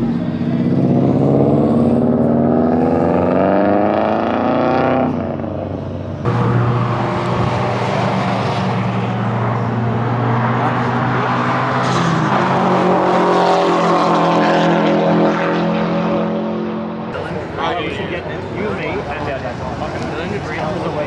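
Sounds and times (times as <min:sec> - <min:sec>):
car engine accelerating: 0:00.0 - 0:21.0
steady loud engine note: 0:00.0 - 0:21.0.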